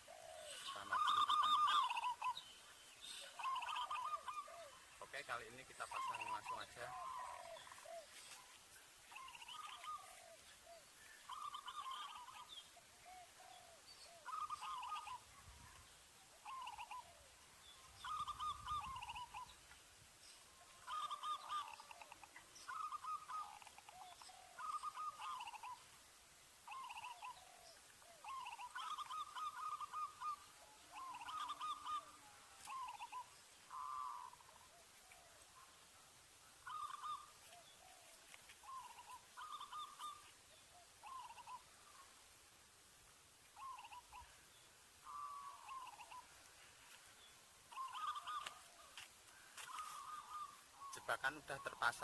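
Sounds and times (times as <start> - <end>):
dove cooing: 0.0 - 8.5, 9.1 - 19.6, 20.5 - 25.9, 26.6 - 35.8, 36.6 - 42.1, 43.6 - 44.4, 45.0 - 46.4, 47.7 - 52.0.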